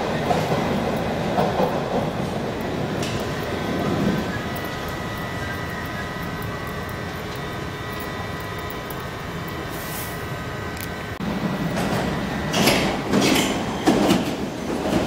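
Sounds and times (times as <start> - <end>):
underground train hum and whine: 0.0 - 15.0.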